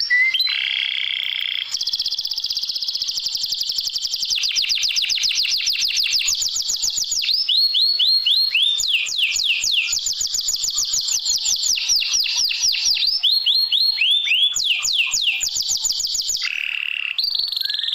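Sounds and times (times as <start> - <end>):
canary singing: 0.0 - 17.9.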